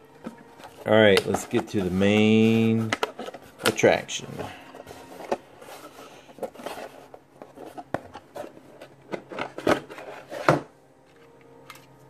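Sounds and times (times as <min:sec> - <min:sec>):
packaging rubbing and scraping: 0:00.0 - 0:10.7.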